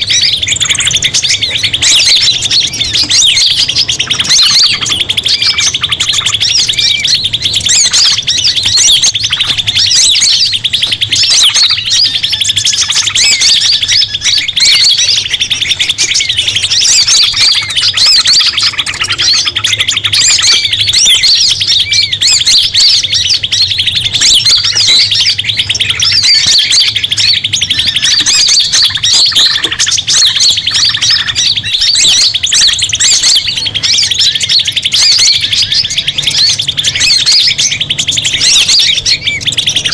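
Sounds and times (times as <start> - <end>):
small birds chirping and twittering: 0.0 - 39.9
steady rapid bird trill: 0.0 - 39.9.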